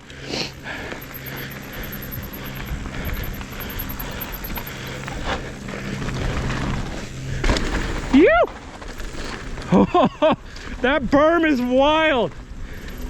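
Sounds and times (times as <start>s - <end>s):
bike rattling: 0.0s - 13.0s
bike tyres rolling over dirt: 0.0s - 13.0s.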